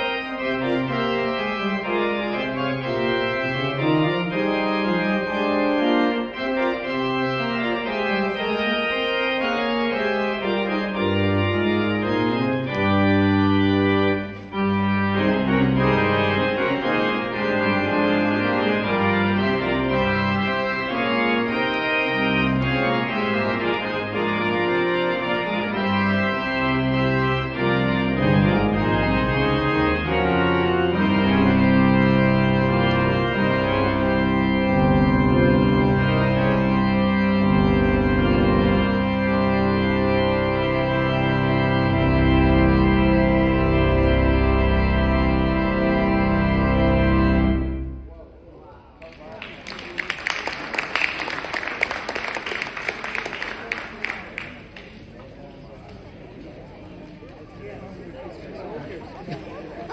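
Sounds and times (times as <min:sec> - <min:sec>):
organ bass line: 0:00.0 - 0:48.3
organ chords and melody: 0:00.0 - 0:48.6.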